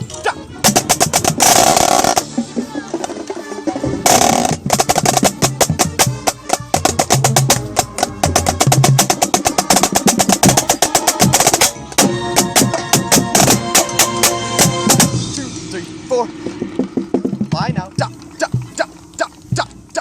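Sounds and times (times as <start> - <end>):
drum corps music: 0.0 - 20.0
snare drum rolls: 0.7 - 18.9.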